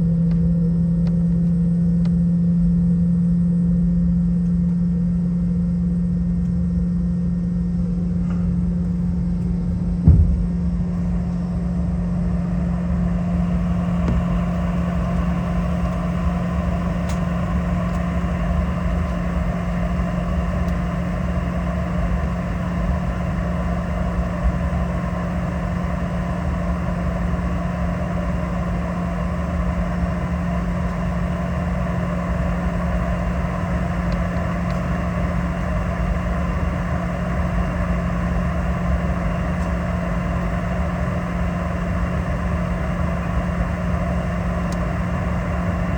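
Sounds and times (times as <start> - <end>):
aircraft cabin engine rumble: 0.0 - 45.9.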